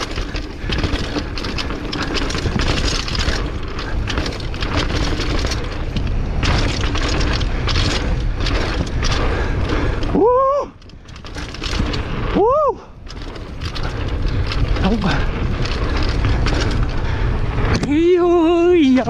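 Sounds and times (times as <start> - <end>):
bike rattling over bumps: 0.0 - 19.0
tyres rumbling over dirt: 0.0 - 19.0
wind rush on microphone: 0.0 - 19.0.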